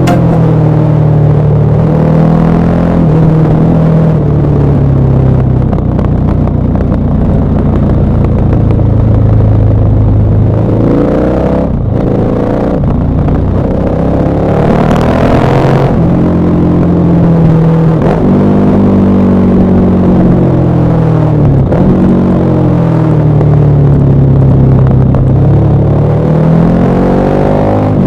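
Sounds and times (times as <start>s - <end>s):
motorcycle engine revving: 0.0s - 5.7s, 7.3s - 28.0s.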